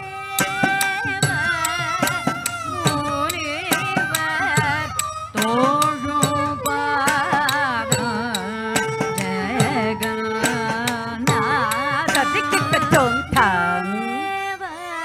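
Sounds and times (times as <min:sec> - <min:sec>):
percussion strokes: 0:00.0 - 0:14.6.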